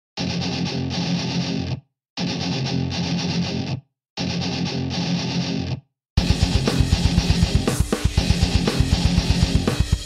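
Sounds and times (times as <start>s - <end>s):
distorted electric guitar: 0.2s - 10.0s.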